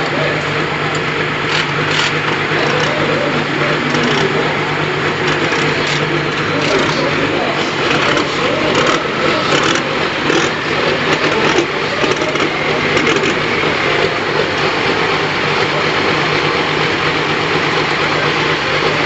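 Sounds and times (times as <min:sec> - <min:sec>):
turbocharged engine running: 0:00.0 - 0:19.0.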